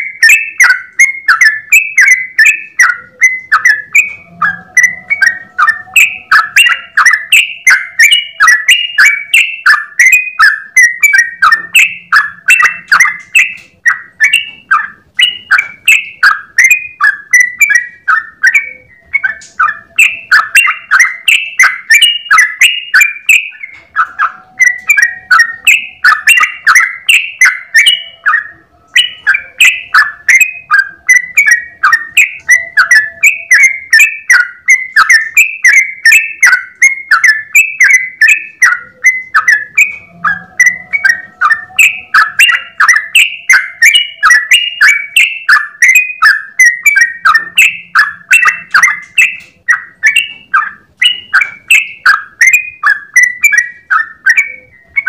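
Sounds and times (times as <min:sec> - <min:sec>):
bird chirping rapidly: 0:00.0 - 0:55.0.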